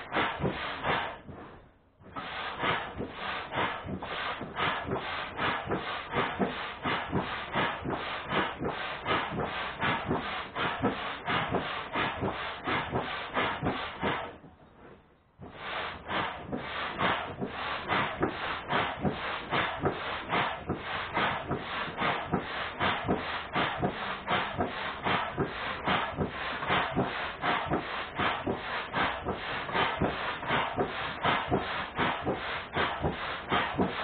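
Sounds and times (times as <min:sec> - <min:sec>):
rhythmic rubbing strokes: 0:00.0 - 0:34.0.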